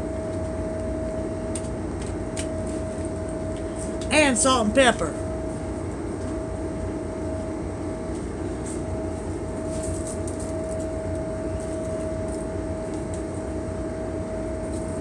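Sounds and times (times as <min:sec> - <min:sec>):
constant hum tone: 0:00.0 - 0:15.0
low machinery drone: 0:00.0 - 0:15.0.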